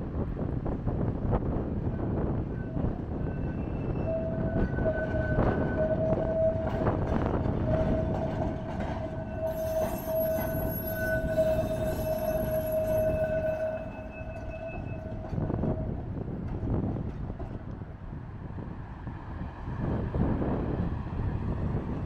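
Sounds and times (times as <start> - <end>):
tram high whine: 0.0 - 22.0
wind rumble on microphone: 0.0 - 22.0.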